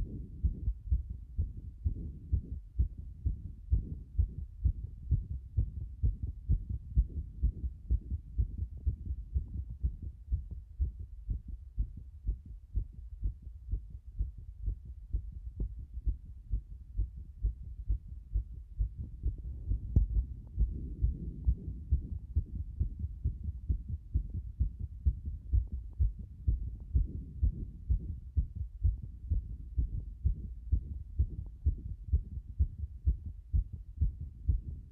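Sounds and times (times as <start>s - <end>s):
fast heartbeat thumps: 0.0s - 34.9s.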